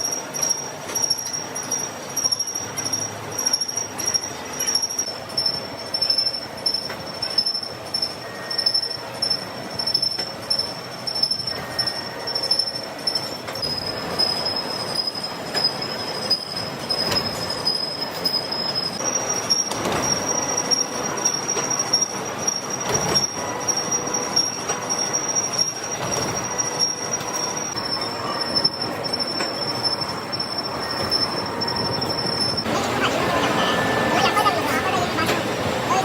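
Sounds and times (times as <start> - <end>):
machine tool high-pitched squeal: 0.0 - 36.0.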